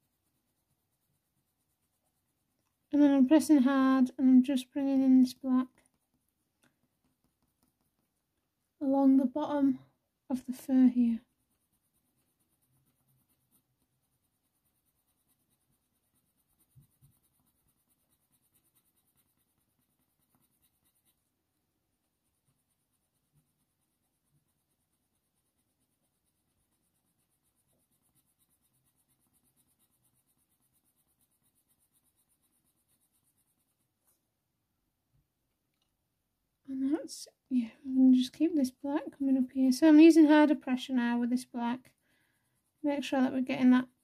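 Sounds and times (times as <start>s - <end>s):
pencil scratching on paper: 0.0s - 9.6s, 10.3s - 34.3s, 38.4s - 44.0s.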